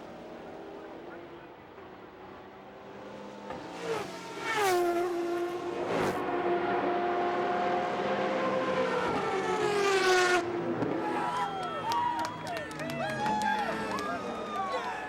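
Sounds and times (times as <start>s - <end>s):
race cars passing at speed: 0.0s - 15.0s.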